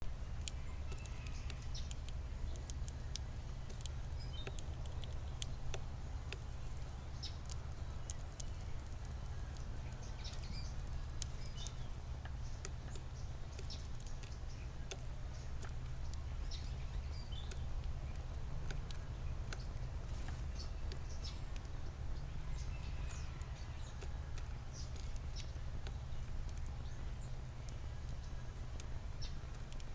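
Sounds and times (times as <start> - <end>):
birds chirping: 0.0 - 29.9
steady low rumble: 0.0 - 29.9.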